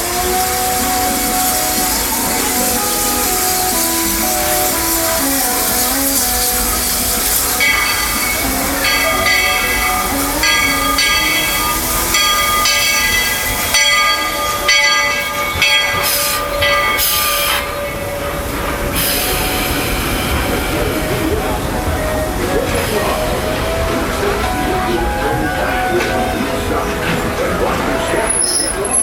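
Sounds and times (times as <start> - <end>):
steam hissing: 0.0 - 29.0
steam locomotive whistle: 0.0 - 29.0.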